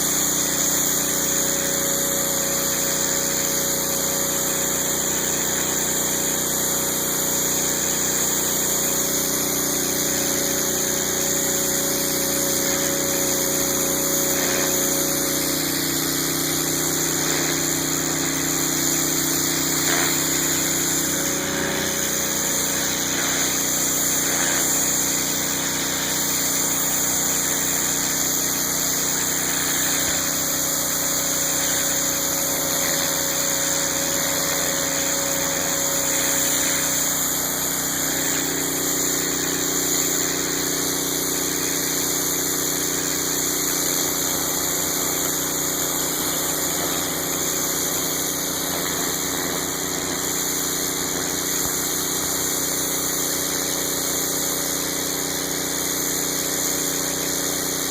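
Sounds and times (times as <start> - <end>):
high-pressure spray hissing: 0.0 - 57.9
pressure washer engine running: 0.0 - 57.9.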